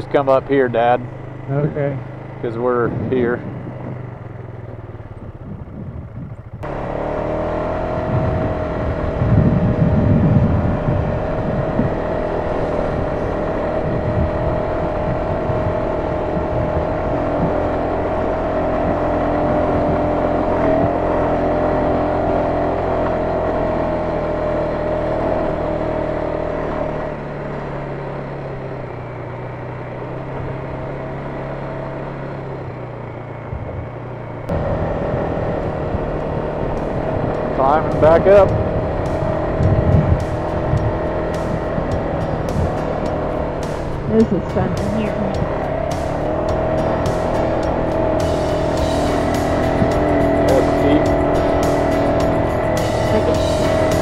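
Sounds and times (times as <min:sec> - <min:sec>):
atv engine running: 0:00.0 - 0:54.0
steady whine: 0:00.0 - 0:54.0.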